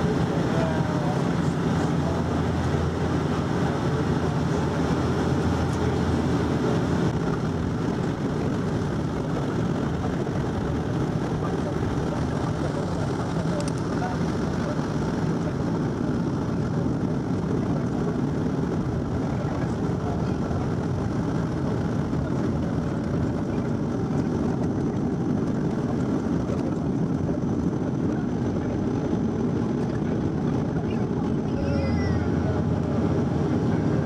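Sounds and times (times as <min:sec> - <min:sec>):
turboprop cabin noise: 0:00.0 - 0:34.0.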